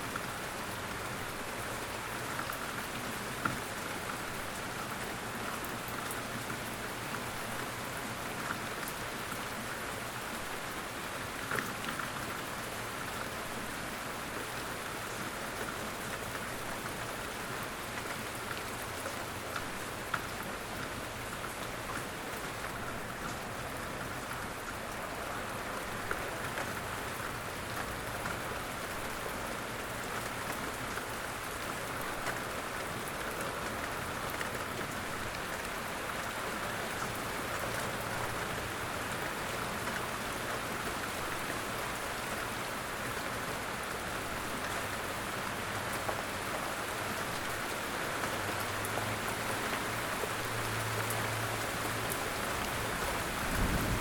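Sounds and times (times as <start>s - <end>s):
light rain falling: 0.0s - 54.0s
raindrops pattering: 0.1s - 54.0s.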